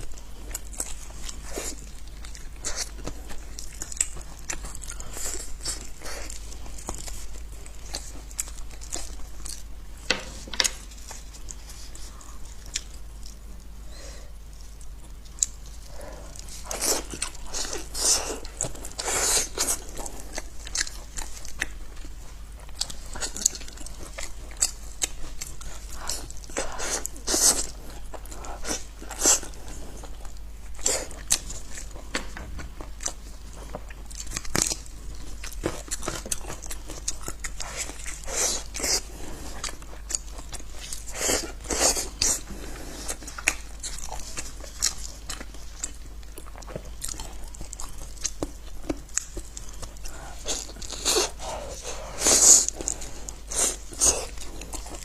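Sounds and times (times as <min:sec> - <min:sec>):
crunchy chewing and biting: 0:00.0 - 0:13.5, 0:14.4 - 0:55.0
steady low hum: 0:00.0 - 0:55.0.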